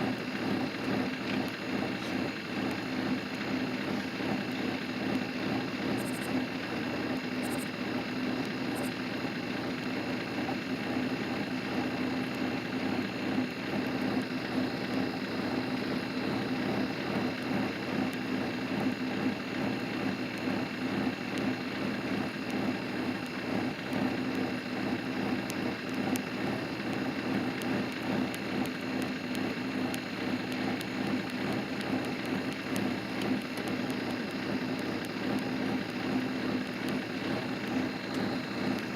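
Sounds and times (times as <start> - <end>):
vehicle engine hum: 0.0 - 38.9.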